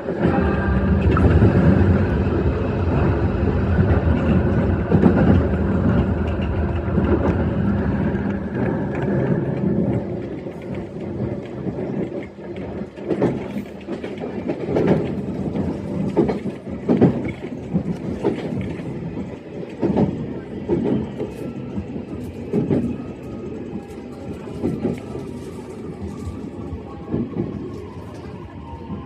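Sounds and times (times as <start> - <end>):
electric train hum: 0.0 - 29.0.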